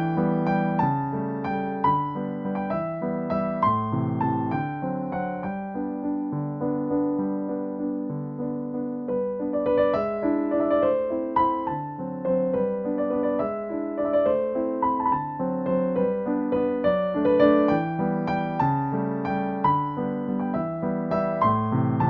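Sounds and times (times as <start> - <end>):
gentle piano piece: 0.0 - 22.0.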